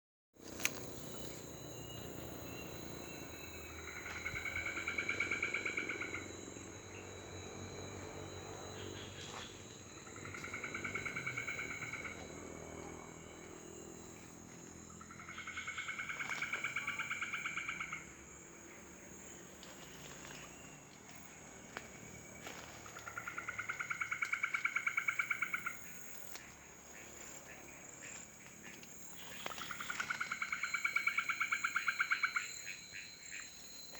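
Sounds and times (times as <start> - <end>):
high insect whine: 0.4 - 33.9.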